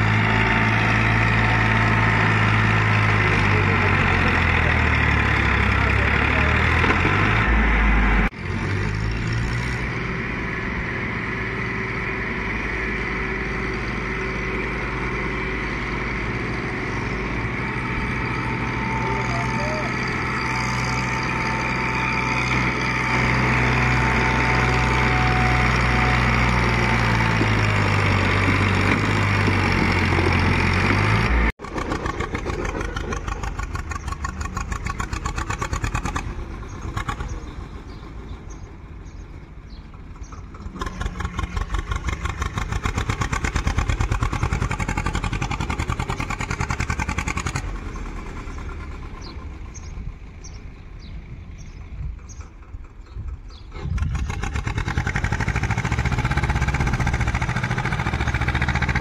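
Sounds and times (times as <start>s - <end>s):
tractor diesel engine working hard: 0.0s - 59.0s
tractor engine chugging: 10.5s - 59.0s.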